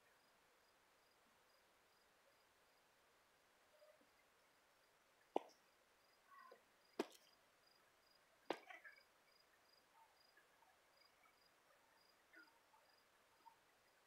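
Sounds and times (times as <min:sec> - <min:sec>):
cricket chirping: 0:00.0 - 0:02.9, 0:03.7 - 0:14.0.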